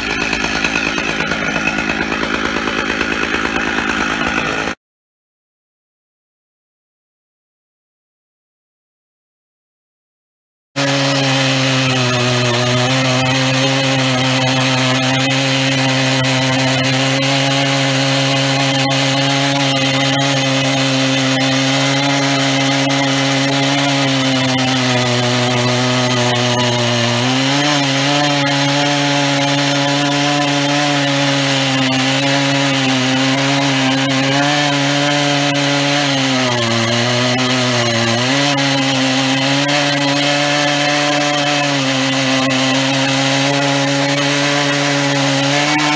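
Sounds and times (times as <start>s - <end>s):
chainsaw ripping through log: 0.0s - 4.8s, 10.8s - 45.9s.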